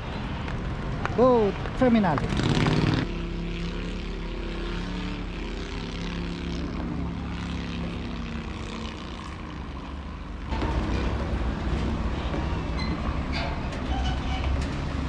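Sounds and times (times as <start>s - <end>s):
loud rough noise: 2.2s - 15.0s
boat engine droning: 2.9s - 15.0s.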